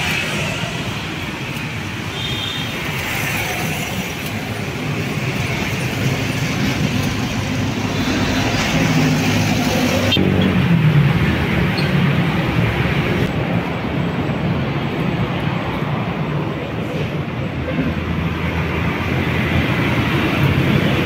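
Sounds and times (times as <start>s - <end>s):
street traffic engines: 0.0s - 21.0s.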